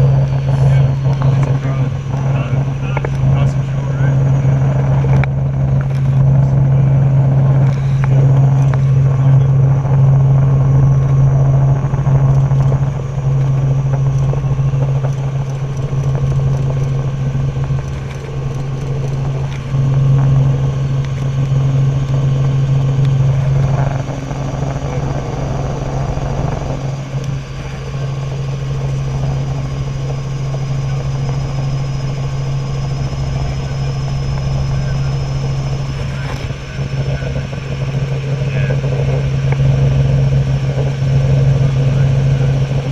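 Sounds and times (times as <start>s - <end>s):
helicopter rotor drone: 0.0s - 42.9s.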